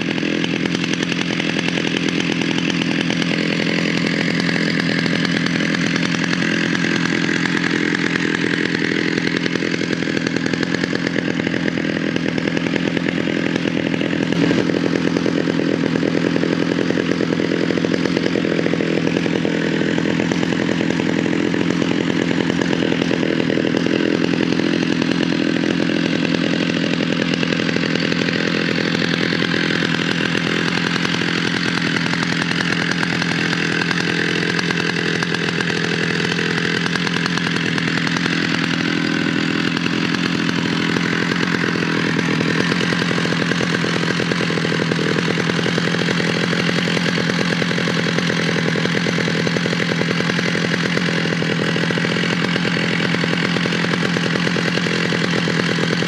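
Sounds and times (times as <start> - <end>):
two-stroke engine running: 0.0 - 56.0.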